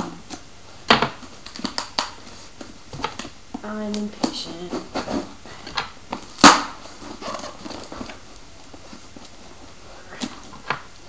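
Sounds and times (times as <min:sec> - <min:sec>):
cardboard rustling and scraping: 0:01.0 - 0:03.3, 0:04.2 - 0:10.9.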